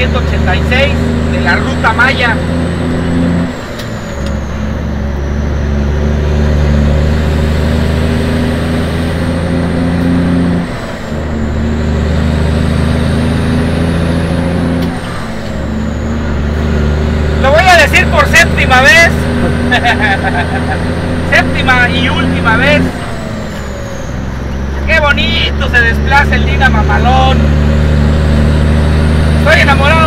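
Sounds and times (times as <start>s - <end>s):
road noise: 0.0s - 30.0s
vehicle engine drone: 0.0s - 30.0s.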